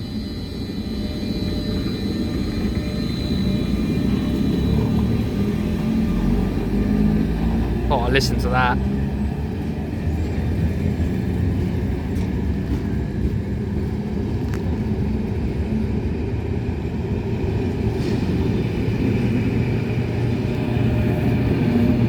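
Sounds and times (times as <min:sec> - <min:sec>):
locomotive engine running: 0:00.0 - 0:22.0.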